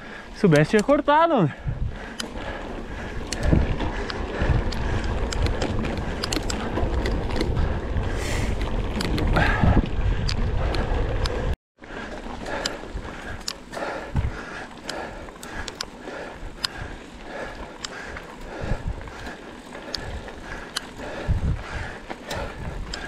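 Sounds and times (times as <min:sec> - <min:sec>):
bike clicks and rattles: 0:00.1 - 0:23.0
wind rushing over microphone: 0:01.4 - 0:11.6, 0:12.7 - 0:17.0, 0:18.0 - 0:23.0
low tyre rumble: 0:01.6 - 0:23.0.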